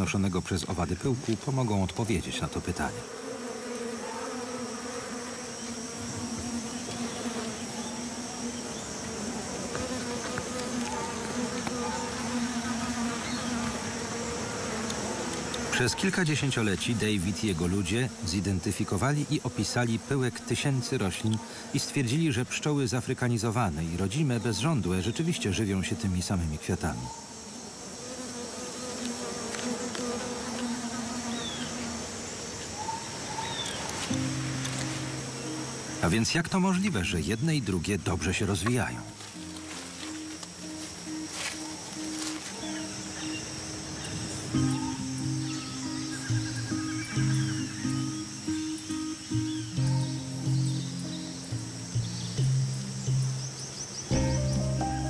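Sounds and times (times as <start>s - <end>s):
bees buzzing: 0.0s - 55.0s
high-pitched insect noise: 0.0s - 55.0s.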